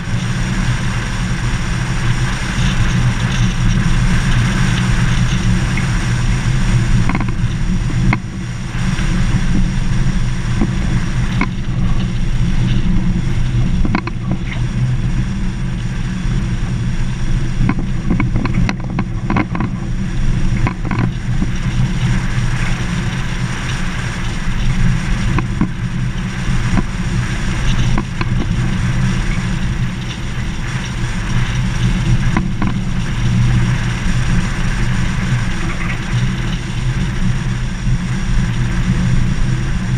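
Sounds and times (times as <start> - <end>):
gravel clicks and knocks: 0.0 - 39.9
vehicle engine and tyre noise: 0.0 - 39.9.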